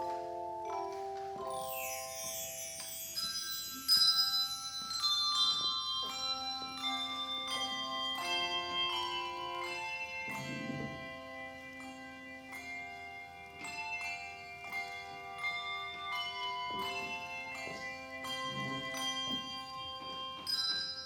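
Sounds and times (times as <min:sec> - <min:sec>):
handbells ringing a tune: 0:00.0 - 0:21.0.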